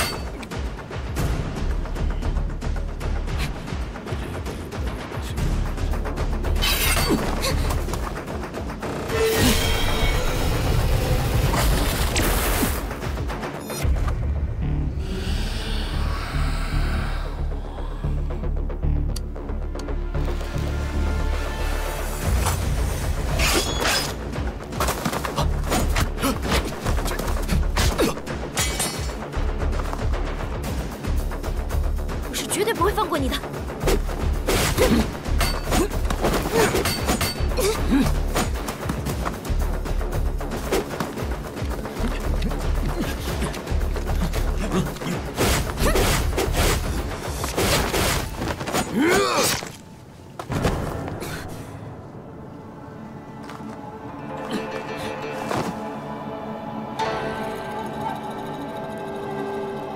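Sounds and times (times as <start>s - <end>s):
dramatic music with low drone: 0.0s - 59.9s.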